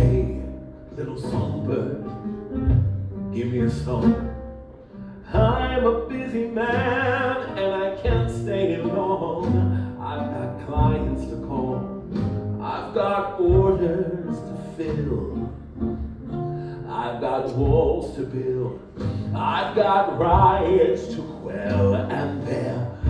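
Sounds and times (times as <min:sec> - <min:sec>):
man singing: 0:00.0 - 0:02.2, 0:03.3 - 0:04.4, 0:05.2 - 0:15.7, 0:16.8 - 0:23.0
live band with bowed strings: 0:00.0 - 0:23.0.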